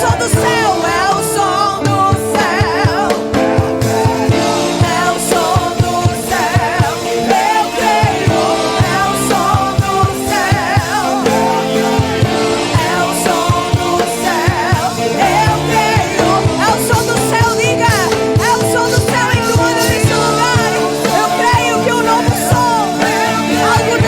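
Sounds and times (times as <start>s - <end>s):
person singing: 0.0s - 24.0s
steady drum beat: 0.0s - 24.0s
sustained chords: 0.0s - 24.0s.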